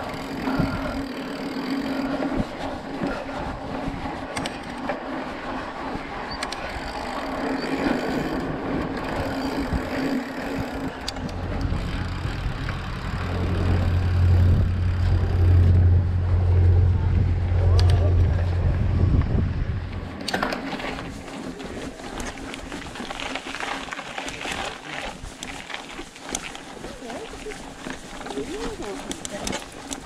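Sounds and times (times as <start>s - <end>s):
bike tyres rolling on gravel: 0.0s - 30.0s
boat engine hum: 0.0s - 30.0s.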